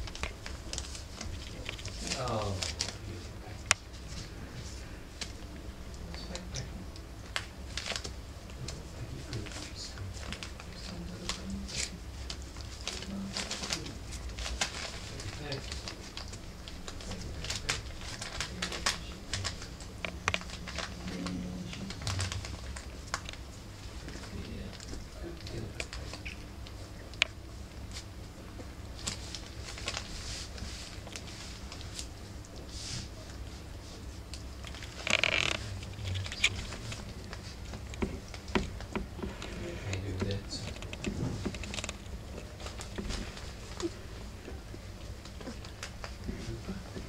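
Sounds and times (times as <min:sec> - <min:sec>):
newspaper crinkling under paws: 0:00.0 - 0:06.5, 0:07.2 - 0:26.8, 0:27.5 - 0:47.0.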